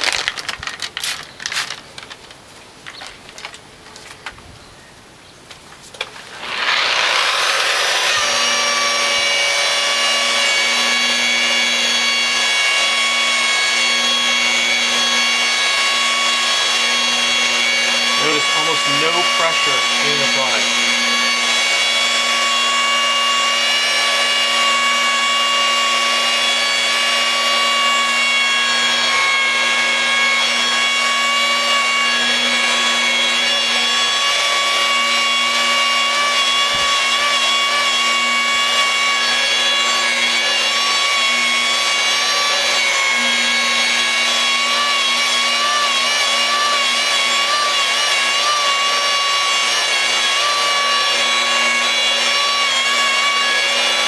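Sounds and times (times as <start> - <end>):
glass polisher motor humming: 6.0 - 54.0.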